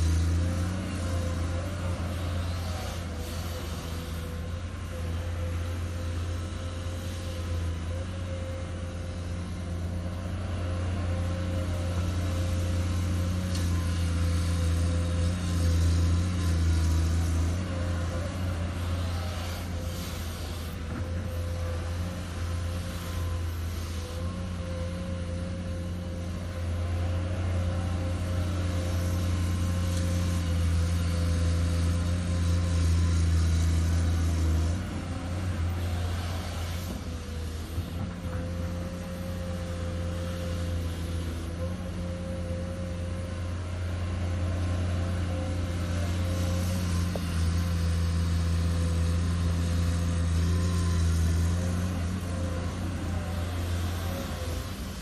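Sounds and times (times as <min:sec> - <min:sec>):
excavator diesel engine under load: 0:00.0 - 0:55.0.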